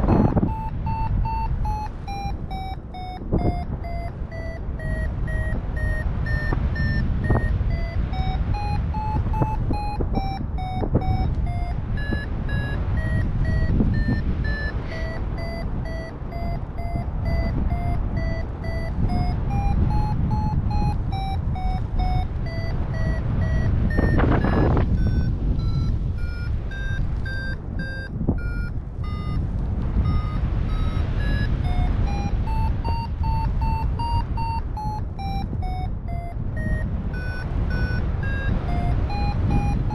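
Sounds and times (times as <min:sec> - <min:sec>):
variometer beeping: 0:00.0 - 0:39.9
wind rushing over microphone: 0:00.0 - 0:39.9.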